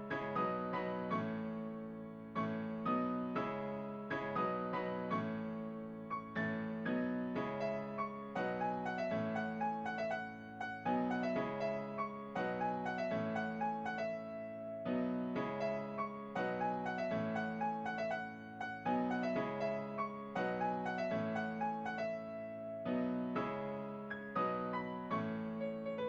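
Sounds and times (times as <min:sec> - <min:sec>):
soft piano music: 0:00.0 - 0:26.0.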